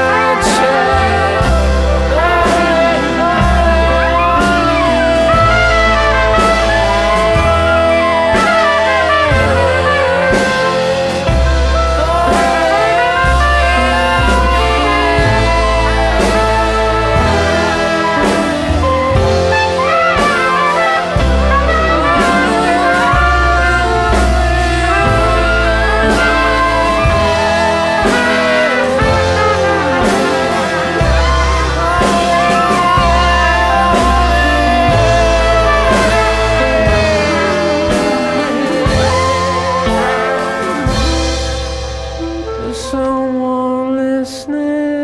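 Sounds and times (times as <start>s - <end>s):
jazz with saxophone and trumpet: 0.0s - 45.0s
rock music: 0.0s - 45.0s.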